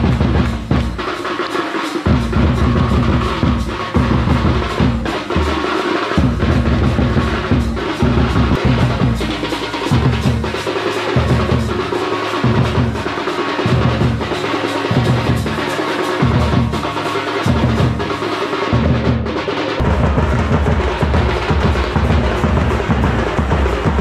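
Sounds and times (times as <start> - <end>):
drums in a fast dance rhythm: 0.0 - 24.0.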